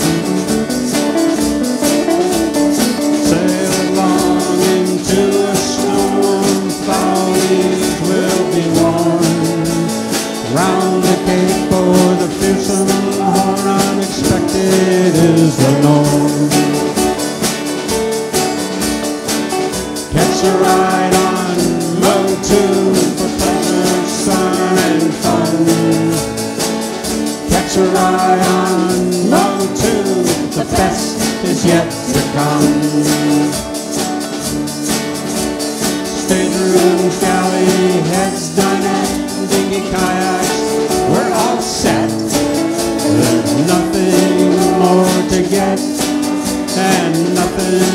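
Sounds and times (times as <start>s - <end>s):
voices singing: 0.0s - 17.8s, 19.6s - 34.3s, 35.8s - 47.9s
acoustic guitars strumming: 0.0s - 47.9s
drum kit with cymbals: 0.0s - 47.9s.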